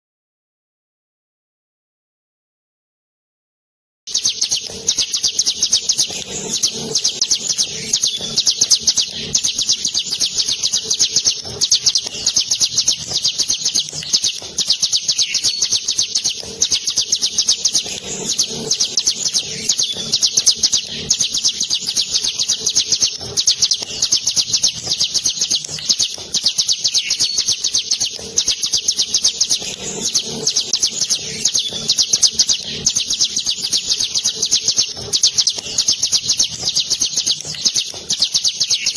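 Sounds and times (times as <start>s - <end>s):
songbird rolling trill: 4.1s - 38.9s.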